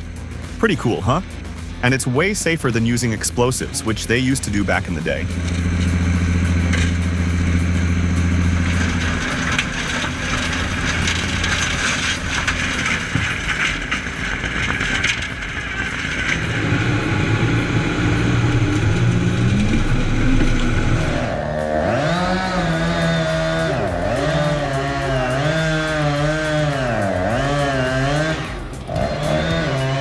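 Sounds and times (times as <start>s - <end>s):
rough grinding and crackling: 0.0s - 30.0s
stump grinder engine: 3.4s - 30.0s.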